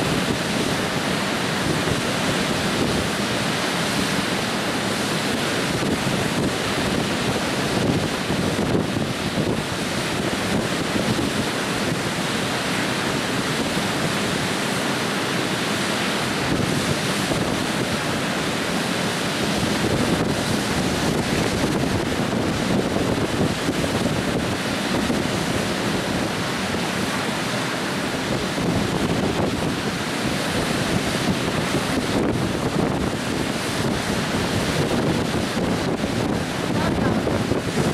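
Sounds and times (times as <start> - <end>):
river water rushing over weir: 0.0 - 37.9.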